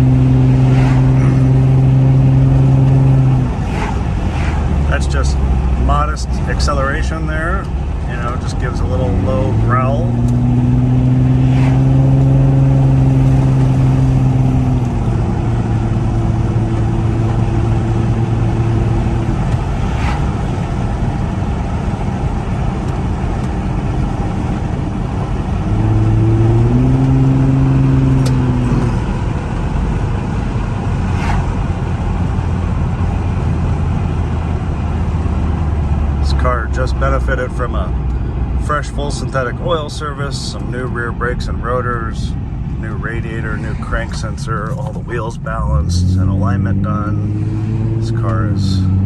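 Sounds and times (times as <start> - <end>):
car exhaust drone: 0.0 - 49.0
tyre and road noise: 0.0 - 49.0.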